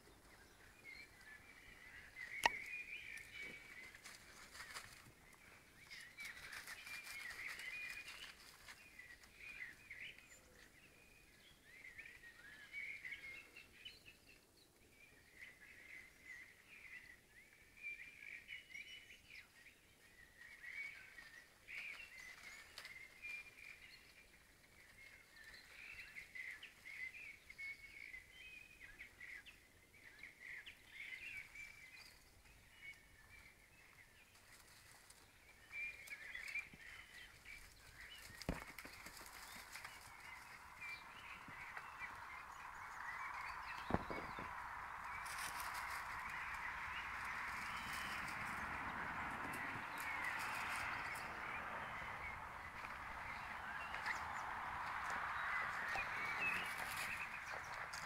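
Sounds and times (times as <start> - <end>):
faint birdsong: 0.0 - 58.0.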